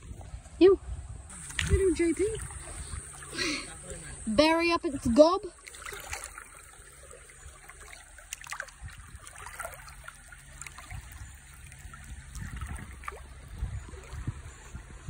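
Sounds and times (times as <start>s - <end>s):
creek water trickling: 0.0s - 15.0s
faint small fish splashes: 1.3s - 4.2s, 5.4s - 15.0s.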